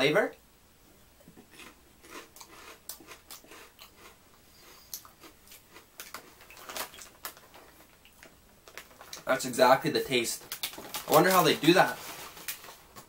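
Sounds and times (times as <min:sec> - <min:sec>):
person crunching potato chips: 0:01.4 - 0:09.3, 0:10.3 - 0:13.0.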